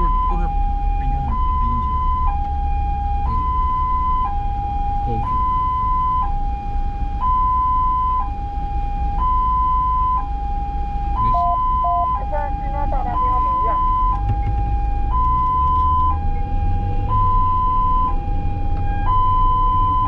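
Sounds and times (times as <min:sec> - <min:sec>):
ambulance two-tone siren: 0:00.0 - 0:20.0
low vehicle rumble: 0:00.0 - 0:20.0.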